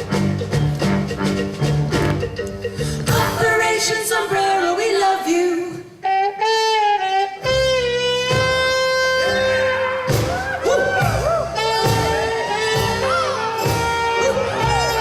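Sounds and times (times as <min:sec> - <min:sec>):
live band playing cabaret song: 0:00.0 - 0:15.0.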